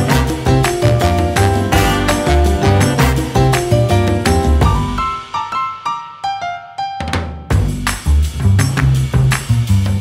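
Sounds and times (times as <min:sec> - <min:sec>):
bass: 0:00.0 - 0:05.4, 0:07.1 - 0:10.0
drum kit beat: 0:00.0 - 0:06.2, 0:07.0 - 0:10.0.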